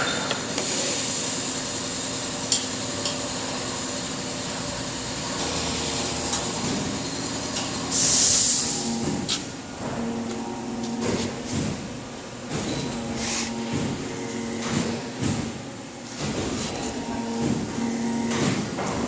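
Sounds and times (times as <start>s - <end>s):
machine hum: 1.3s - 19.0s.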